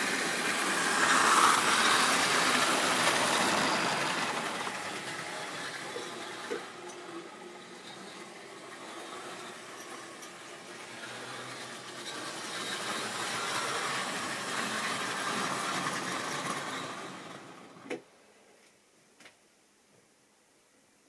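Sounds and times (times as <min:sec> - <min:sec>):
model train whirring on track: 0:00.0 - 0:18.0.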